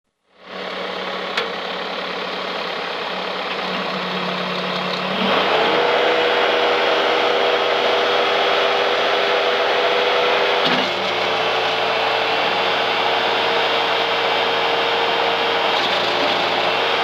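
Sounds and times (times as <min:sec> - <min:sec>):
diesel engine idling and revving: 0:00.3 - 0:17.0.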